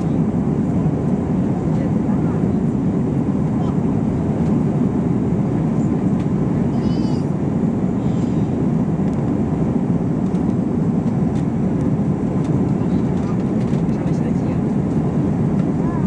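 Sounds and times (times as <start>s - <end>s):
jet cabin engine rush: 0.0s - 16.0s.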